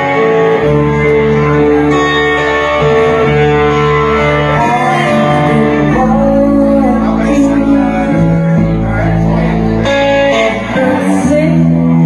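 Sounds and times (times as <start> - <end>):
bass guitar: 0.0 - 12.0
electric guitar: 0.0 - 12.0.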